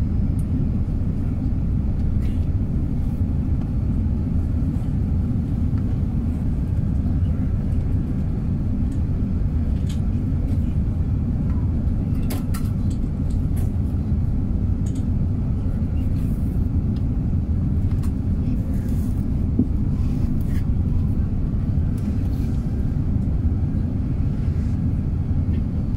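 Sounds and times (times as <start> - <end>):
aircraft cabin engine drone: 0.0 - 25.9.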